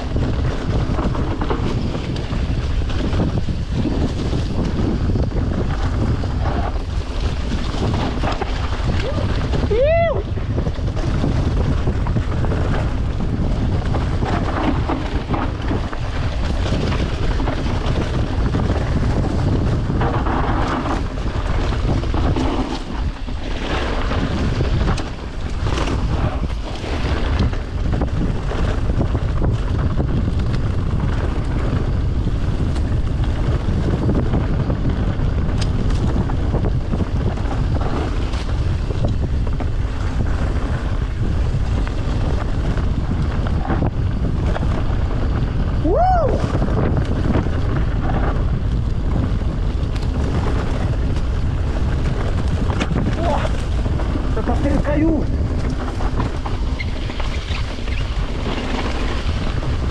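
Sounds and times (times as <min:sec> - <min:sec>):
bike knocks and rattles: 0:00.0 - 0:59.9
wind buffeting microphone: 0:00.0 - 0:59.9.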